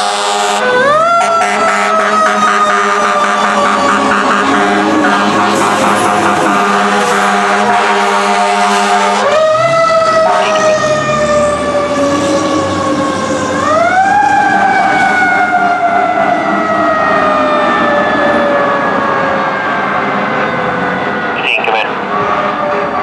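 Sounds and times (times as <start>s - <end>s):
fire engine siren wailing: 0.0s - 23.0s.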